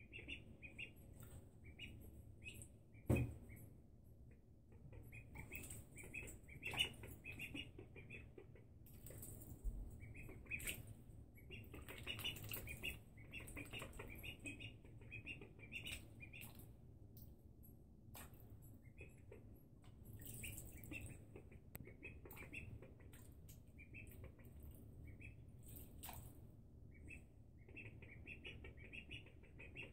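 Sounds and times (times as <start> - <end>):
ducklings peeping: 0.0 - 16.8, 18.2 - 26.2, 26.9 - 29.9.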